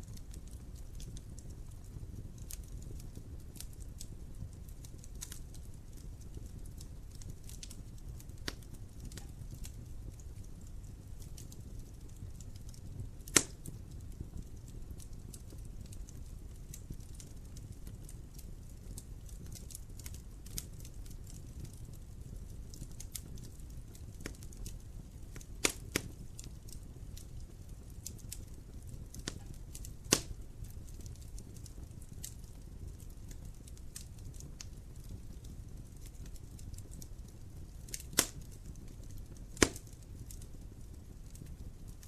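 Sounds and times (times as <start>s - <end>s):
fire rumbling low: 0.0s - 42.0s
wood fire crackling: 0.0s - 42.0s
sharp loud crack of fire: 0.1s - 42.0s.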